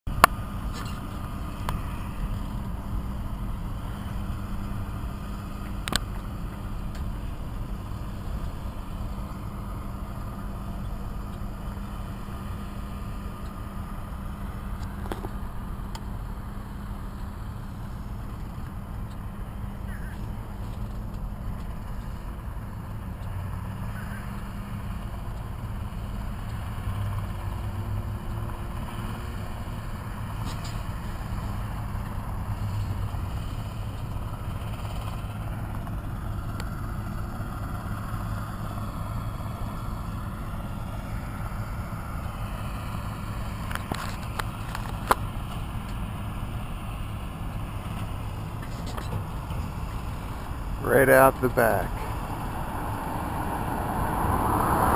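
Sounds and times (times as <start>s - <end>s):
tractor and hay baler drone: 0.1s - 54.9s.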